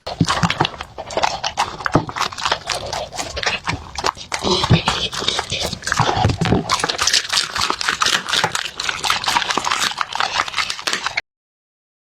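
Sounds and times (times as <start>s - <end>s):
dog chewing food: 0.0s - 11.2s.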